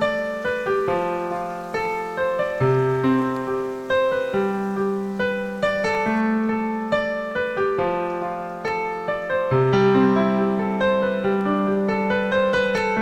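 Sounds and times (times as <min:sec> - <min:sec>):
piano melody: 0:00.0 - 0:13.0.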